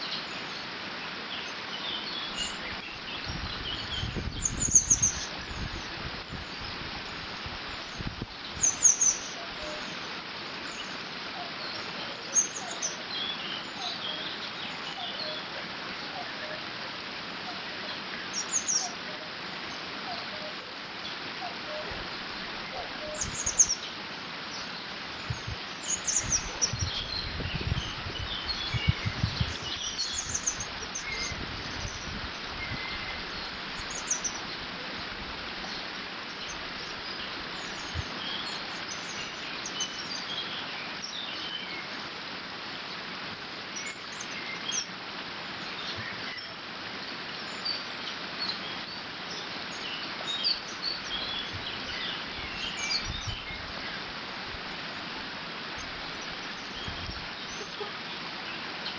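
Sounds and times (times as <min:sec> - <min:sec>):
songbirds chirping: 0:00.0 - 0:58.9
water rushing: 0:00.0 - 0:58.9.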